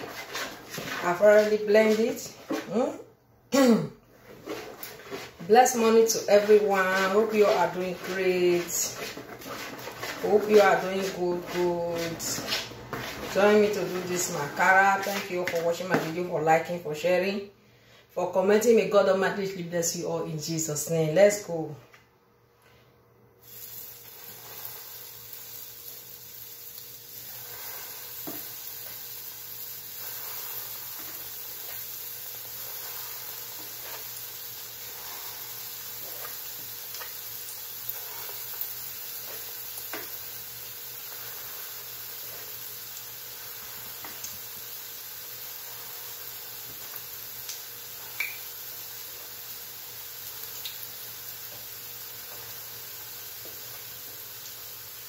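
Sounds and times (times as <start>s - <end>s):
batter sizzling in hot oil: 0.0s - 2.3s, 4.4s - 16.2s, 23.4s - 55.0s.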